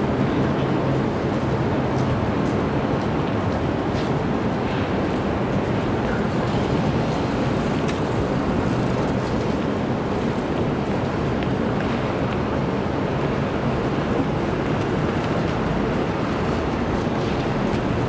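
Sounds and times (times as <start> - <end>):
bus engines: 0.0 - 18.0
road traffic rumble: 0.0 - 18.0.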